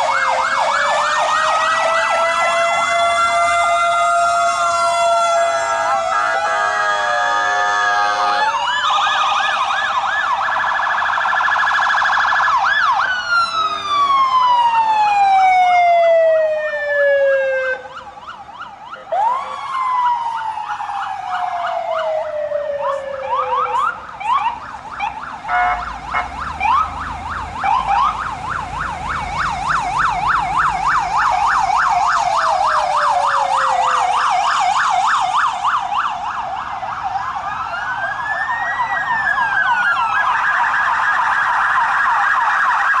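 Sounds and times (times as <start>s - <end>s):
police sirens wailing and yelping: 0.0s - 43.0s.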